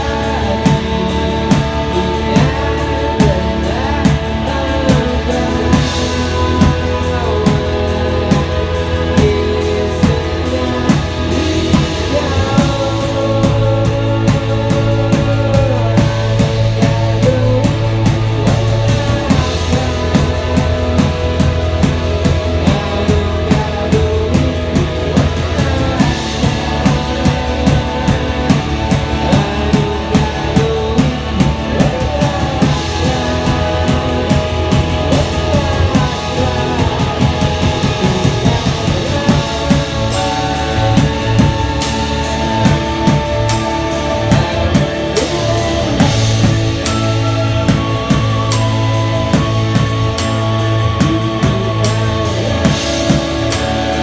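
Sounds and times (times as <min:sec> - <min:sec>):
drum kit: 0:00.0 - 0:54.0
electric guitar: 0:00.0 - 0:54.0
low bass notes: 0:00.0 - 0:54.0.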